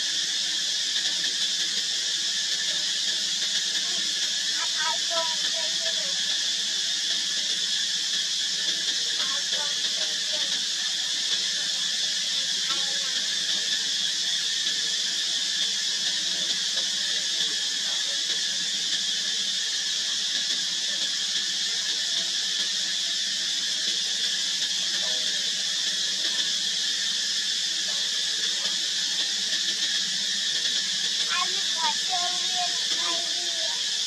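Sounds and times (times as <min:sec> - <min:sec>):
insect chorus drone: 0:00.0 - 0:34.0.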